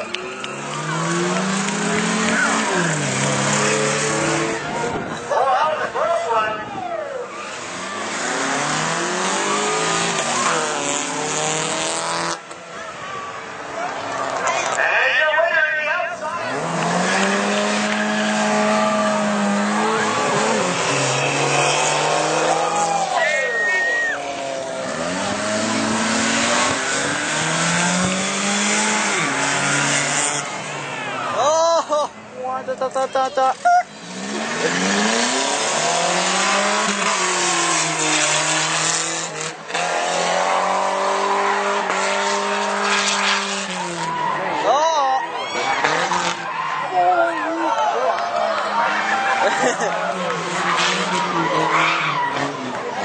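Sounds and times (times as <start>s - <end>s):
car engines revving high: 0.0s - 53.0s.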